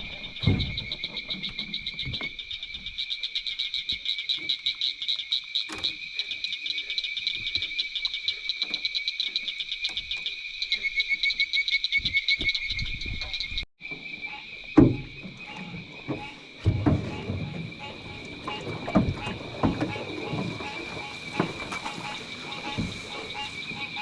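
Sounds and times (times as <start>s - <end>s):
frogs trilling: 0.0s - 24.0s.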